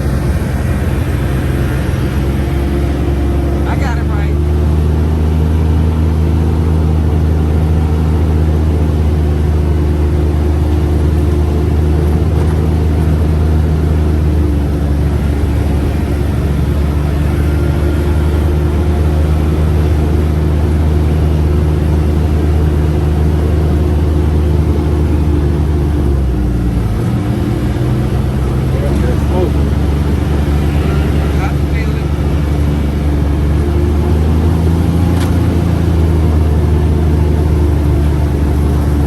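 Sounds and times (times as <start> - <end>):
utility vehicle engine running: 0.0 - 39.0.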